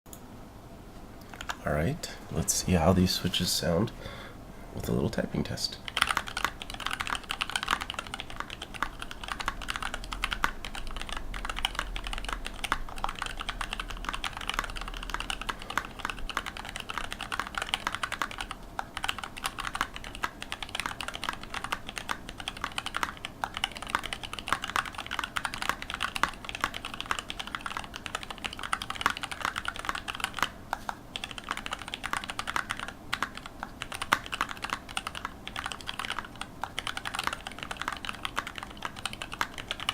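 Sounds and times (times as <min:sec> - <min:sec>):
mechanical keyboard typing: 0:04.9 - 0:39.9.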